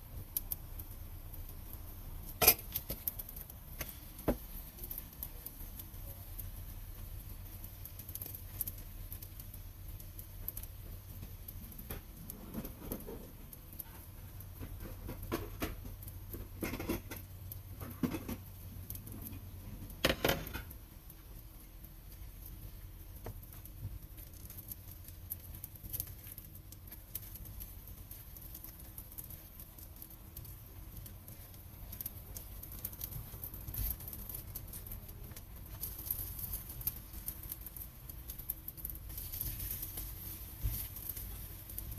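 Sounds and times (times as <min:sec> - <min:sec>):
food sizzling in oil: 0:00.0 - 0:41.9.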